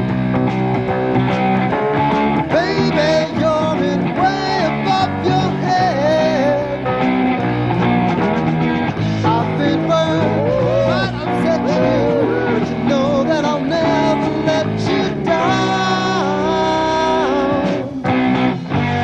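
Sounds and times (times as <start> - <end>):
rock band instrumental: 0.0 - 19.0.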